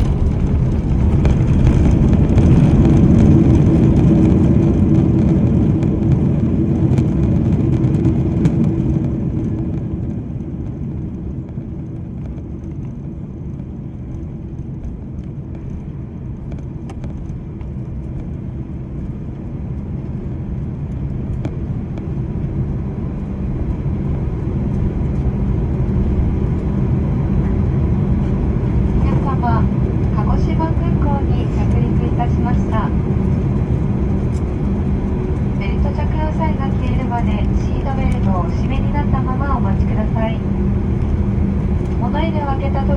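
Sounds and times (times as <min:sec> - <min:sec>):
aircraft cabin rumble: 0:00.0 - 0:42.9.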